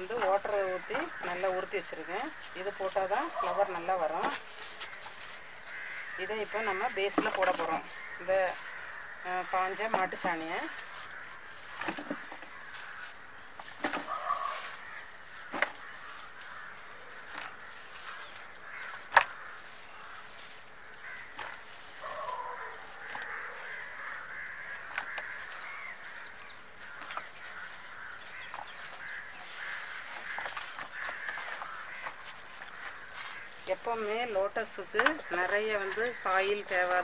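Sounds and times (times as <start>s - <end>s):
birds calling: 0.0s - 37.0s.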